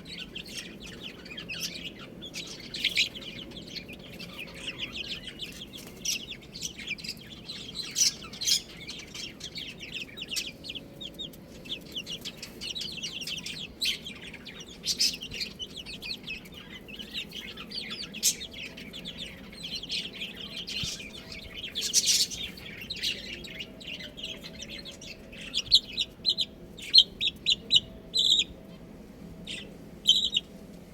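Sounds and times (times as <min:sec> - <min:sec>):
baby chicks peeping: 0:00.0 - 0:30.9.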